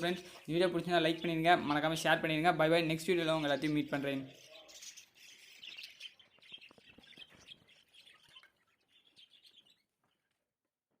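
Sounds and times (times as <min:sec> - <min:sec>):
birds chirping and chattering: 0:00.0 - 0:10.4.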